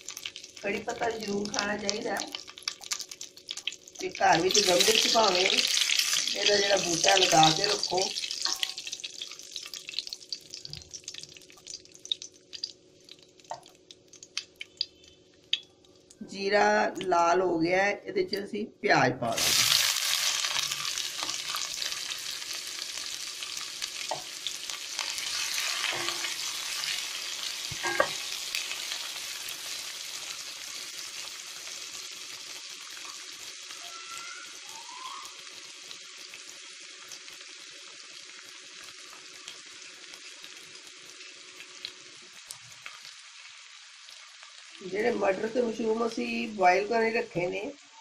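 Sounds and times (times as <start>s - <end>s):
onions sizzling in hot oil: 0.0s - 16.5s, 19.3s - 48.0s.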